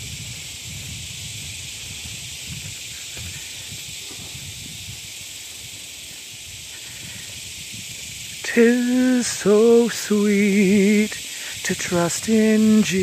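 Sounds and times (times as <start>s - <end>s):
low rumbling on microphone: 0.0s - 11.0s
insects droning: 0.0s - 13.0s.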